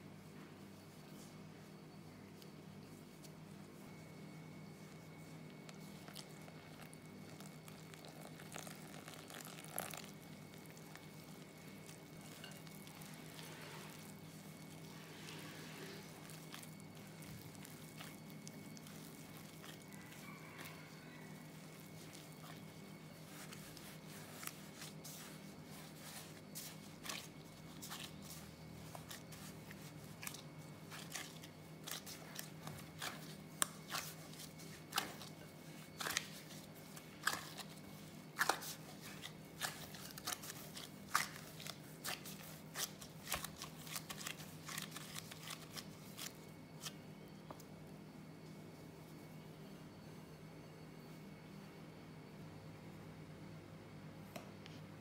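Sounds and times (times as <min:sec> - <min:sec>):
steady low hum: 0:00.0 - 0:55.0
gloved hand kneading sticky dough: 0:00.1 - 0:47.7.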